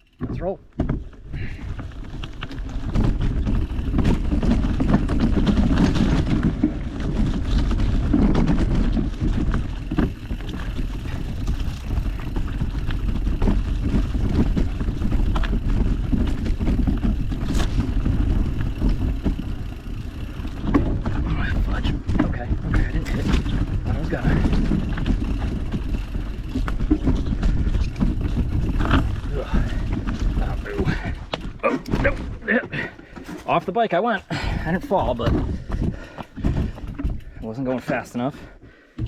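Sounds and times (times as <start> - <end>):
bike rattling over roots and rocks: 0.0 - 39.0
tyres rumbling on dirt trail: 0.0 - 39.0.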